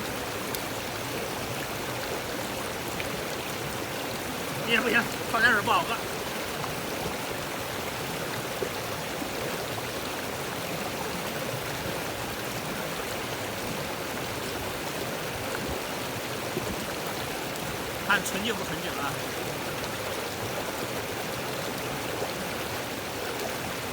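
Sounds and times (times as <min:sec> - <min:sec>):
stream rushing over rocks: 0:00.0 - 0:23.9.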